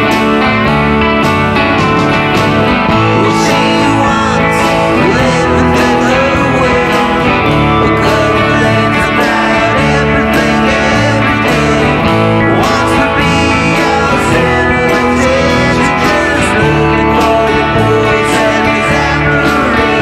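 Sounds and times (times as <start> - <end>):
bass guitar: 0.0 - 20.0
strummed electric guitar: 0.0 - 20.0.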